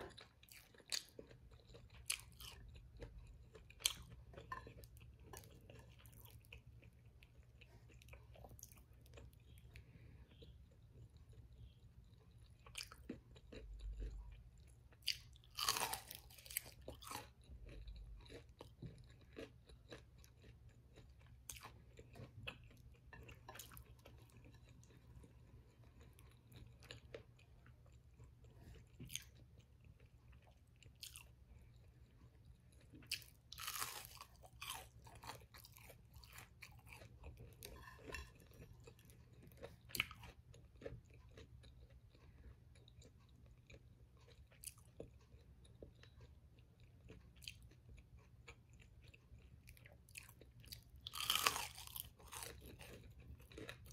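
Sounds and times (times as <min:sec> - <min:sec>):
chewing crunchy fried food: 0:00.0 - 0:53.9.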